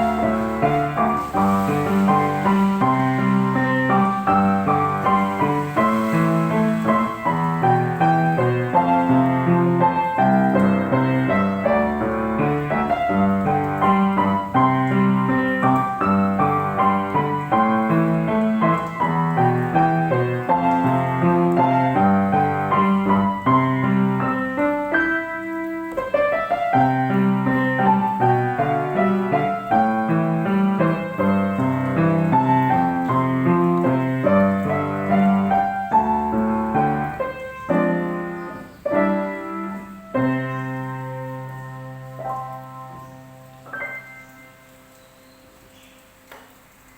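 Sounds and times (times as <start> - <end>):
slow piano melody: 0.0 - 46.9.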